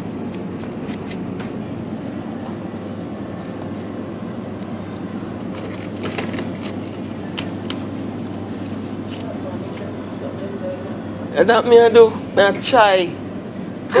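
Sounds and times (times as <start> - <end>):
refrigeration hum: 0.0 - 14.0.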